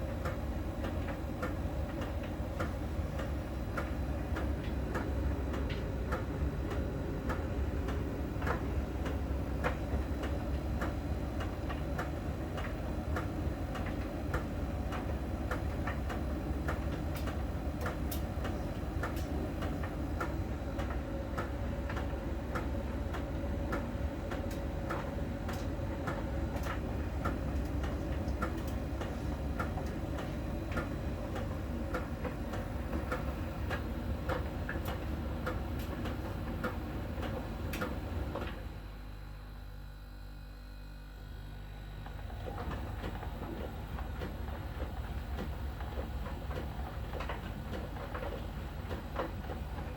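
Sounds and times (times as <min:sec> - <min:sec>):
sharp ticks from dryer drum: 0:00.0 - 0:38.7, 0:42.0 - 0:49.9
tumble dryer drum rumble: 0:00.0 - 0:39.0, 0:40.8 - 0:49.9.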